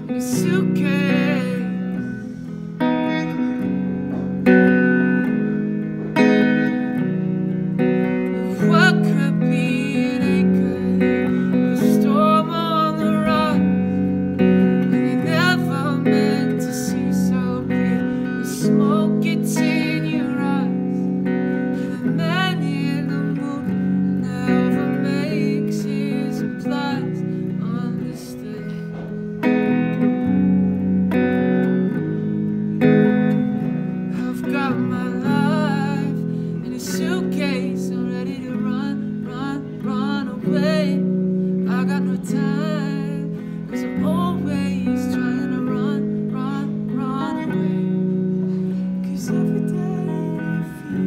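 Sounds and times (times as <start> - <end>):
electric guitar chords and slides: 0.0 - 51.0.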